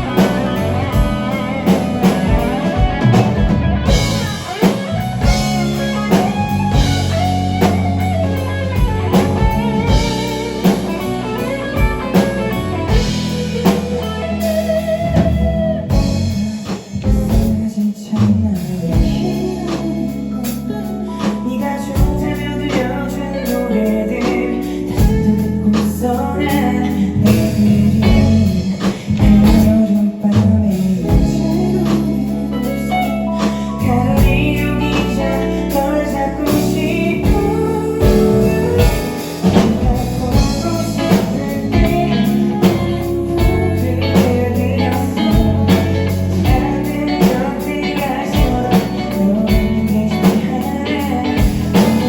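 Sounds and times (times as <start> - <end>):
guitar playing: 0.0 - 17.6, 18.9 - 30.2, 31.0 - 52.0
bass guitar: 0.0 - 52.0
drum kit: 0.0 - 52.0
person singing: 0.0 - 52.0.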